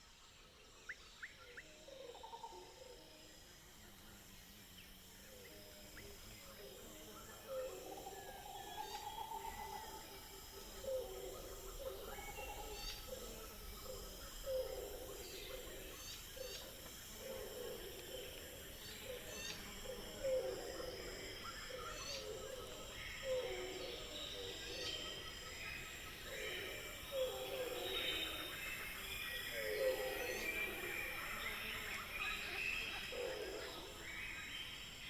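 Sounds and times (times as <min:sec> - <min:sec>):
high-pitched insect drone: 0:01.3 - 0:35.0.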